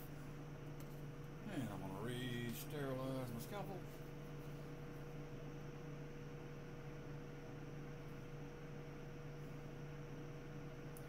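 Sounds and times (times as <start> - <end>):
blower humming with airflow hiss: 0.0 - 11.0.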